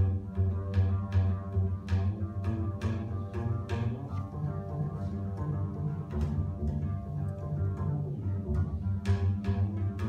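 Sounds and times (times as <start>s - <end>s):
double bass plucked notes: 0.0s - 10.0s.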